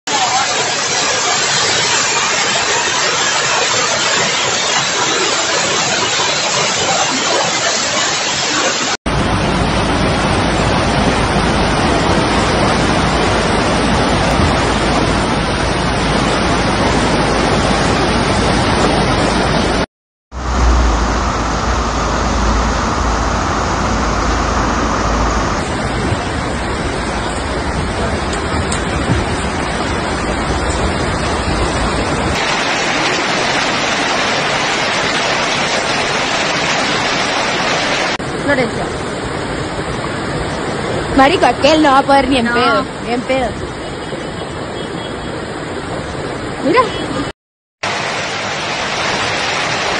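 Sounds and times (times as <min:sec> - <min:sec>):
floodwater rushing down stairs: 0:00.1 - 0:44.3, 0:45.8 - 0:49.9.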